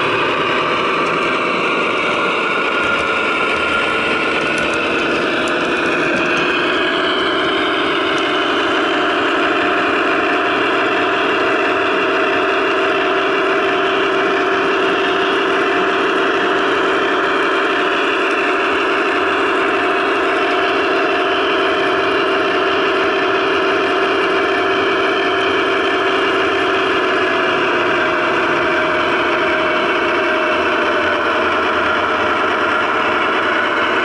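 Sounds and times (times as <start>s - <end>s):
diesel engine sound from speakers: 0.0s - 34.0s.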